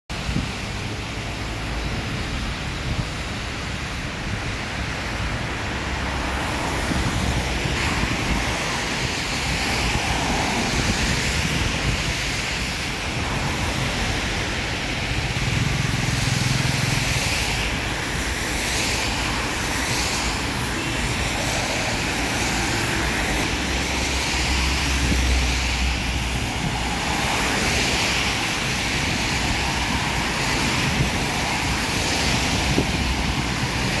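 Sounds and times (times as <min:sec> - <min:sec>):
car engines passing: 0:00.1 - 0:34.0
tyres hissing on wet road: 0:00.1 - 0:34.0.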